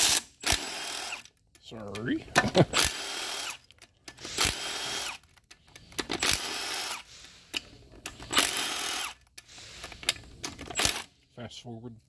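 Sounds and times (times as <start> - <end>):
cordless driver whirring: 0.0 - 1.4, 2.7 - 11.1.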